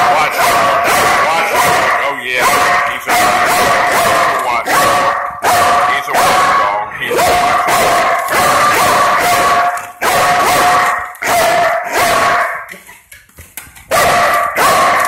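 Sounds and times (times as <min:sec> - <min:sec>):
dog barking loudly: 0:00.0 - 0:12.7, 0:13.9 - 0:15.0.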